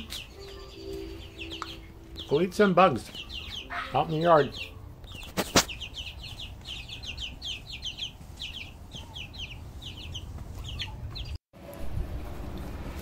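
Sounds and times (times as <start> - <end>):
chicks peeping: 0.0 - 11.4.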